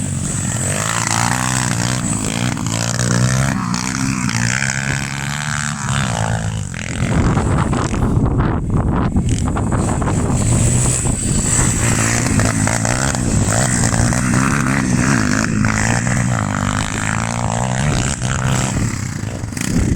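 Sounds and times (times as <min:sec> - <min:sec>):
motorbike engine revving: 0:00.0 - 0:19.9.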